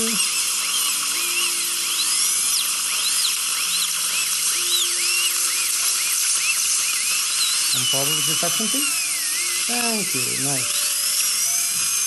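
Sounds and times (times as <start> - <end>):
dental drill whining: 0.0 - 12.0.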